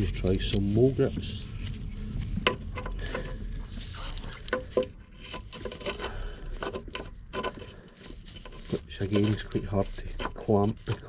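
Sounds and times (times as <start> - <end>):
metal clicks taps and scraping: 0.1 - 11.0.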